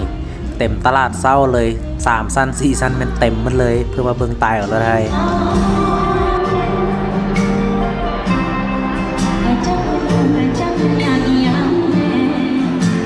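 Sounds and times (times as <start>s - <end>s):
steady bass line: 0.0s - 12.1s
pop song with band: 0.0s - 13.0s.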